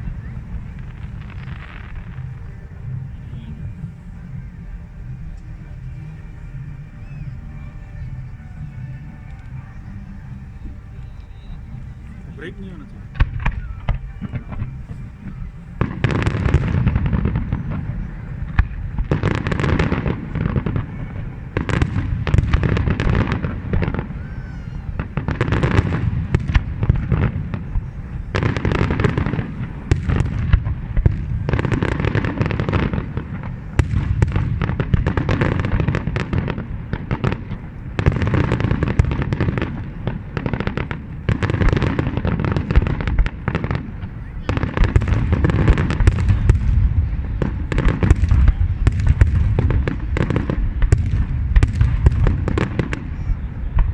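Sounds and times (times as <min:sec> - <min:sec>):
fireworks bursting and crackling: 0:00.0 - 0:53.9.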